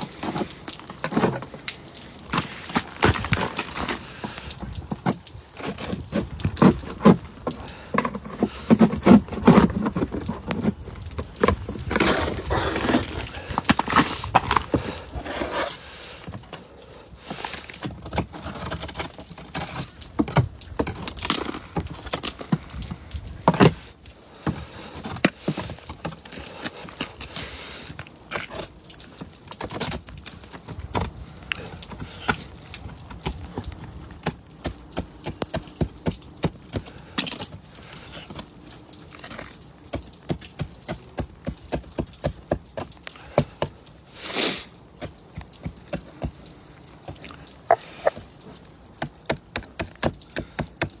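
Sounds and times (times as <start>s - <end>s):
ice pieces crackling: 0.0s - 50.9s.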